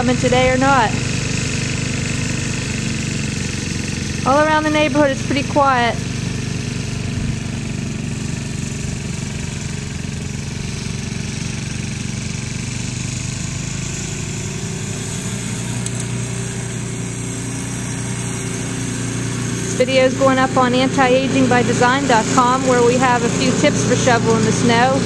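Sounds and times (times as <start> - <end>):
snow-clearing machine engine: 0.0 - 25.0.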